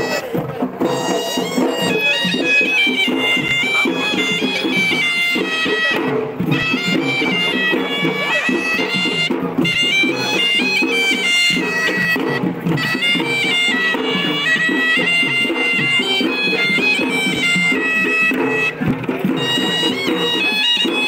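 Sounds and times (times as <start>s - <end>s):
shrill reed pipe melody: 0.0s - 21.0s
steady drumming: 0.0s - 21.0s.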